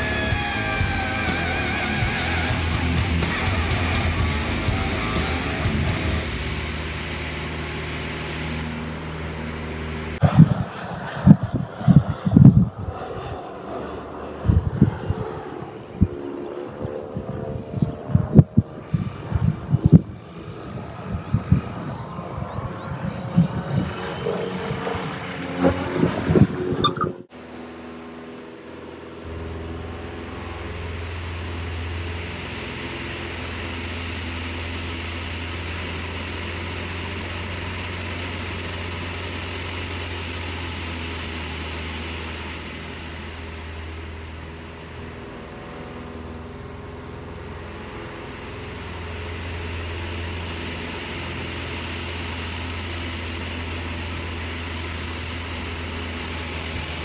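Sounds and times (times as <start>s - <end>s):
propeller engine drone: 0.0s - 57.0s.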